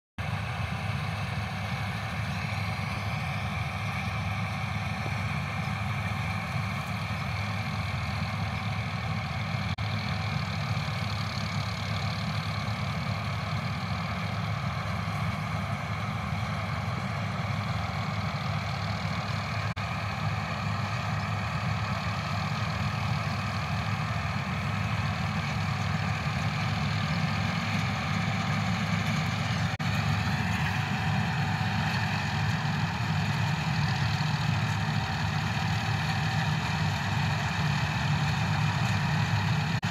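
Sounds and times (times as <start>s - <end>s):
combine harvester engine running: 0.2s - 39.9s.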